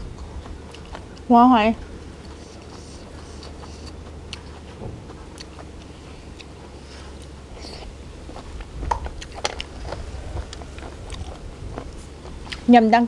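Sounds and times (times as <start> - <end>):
biting and chewing snails: 0.0 - 12.8.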